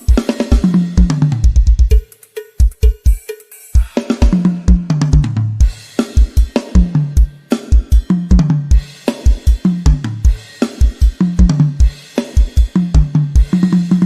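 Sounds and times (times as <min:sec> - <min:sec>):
drum kit fast beat: 0:00.0 - 0:14.0.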